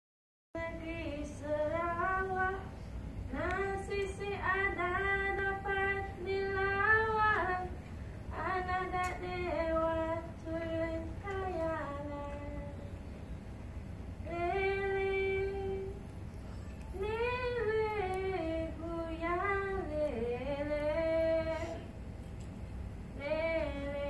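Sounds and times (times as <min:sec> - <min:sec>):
woman singing unaccompanied: 0:00.6 - 0:13.0, 0:14.2 - 0:16.1, 0:16.9 - 0:21.9, 0:23.2 - 0:24.0.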